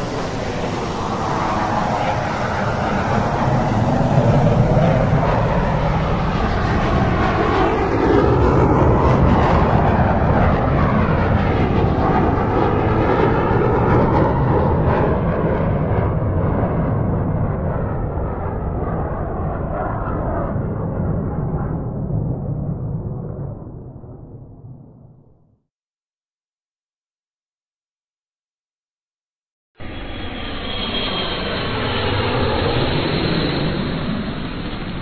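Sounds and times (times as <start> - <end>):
aircraft engine noise: 0.0 - 24.7, 29.8 - 35.0.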